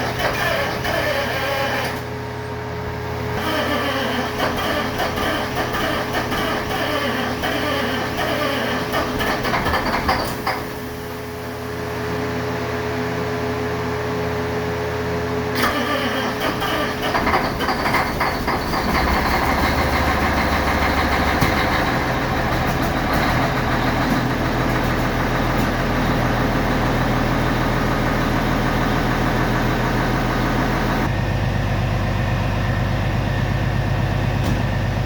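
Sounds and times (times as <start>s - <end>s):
diesel truck engine idling: 0.0s - 11.7s, 15.6s - 35.0s.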